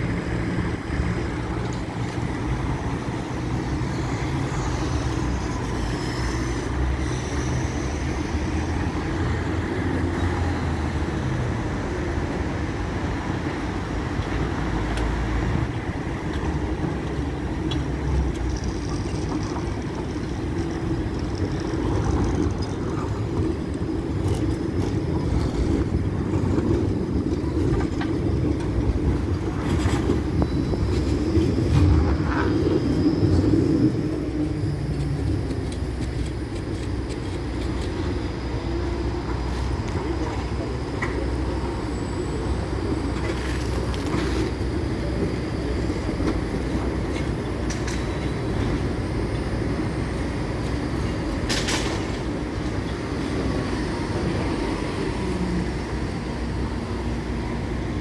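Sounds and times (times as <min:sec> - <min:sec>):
street traffic rumble: 0:00.0 - 0:58.0
tram rolling past: 0:00.0 - 0:58.0.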